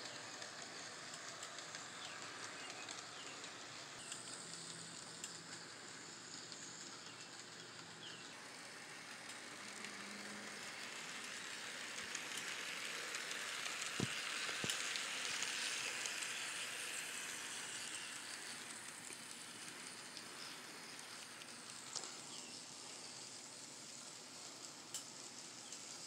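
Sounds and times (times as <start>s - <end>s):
model train whirring rattle: 0.0s - 26.0s.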